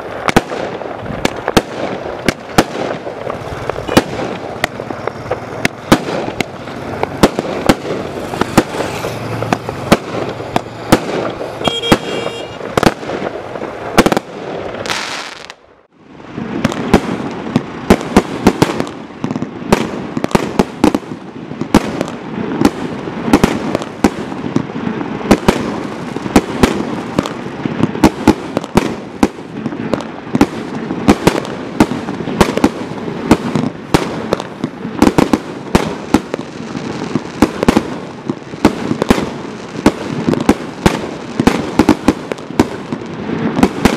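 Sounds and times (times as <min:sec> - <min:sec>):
fireworks shots and crackling: 0:00.0 - 0:43.9.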